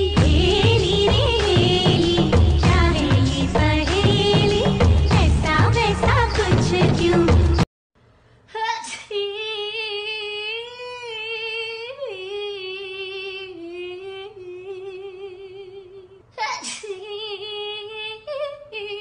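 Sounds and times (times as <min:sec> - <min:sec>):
woman singing unaccompanied: 0:00.0 - 0:07.6, 0:08.5 - 0:19.0.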